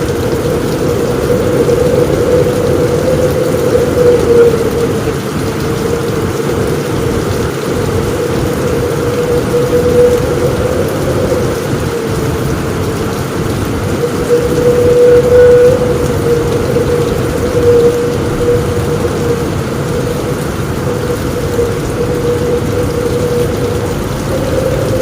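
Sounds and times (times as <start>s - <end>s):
heavy rain on a roof: 0.0s - 25.0s
low rumble of thunder: 0.0s - 25.0s.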